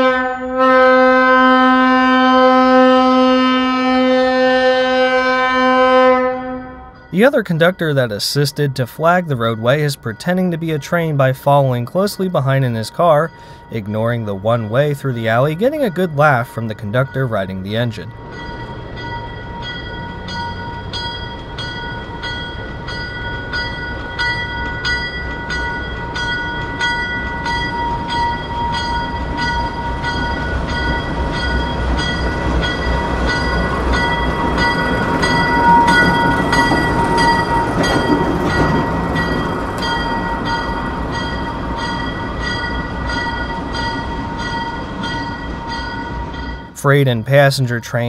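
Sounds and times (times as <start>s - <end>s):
locomotive bell ringing: 0.0s - 48.0s.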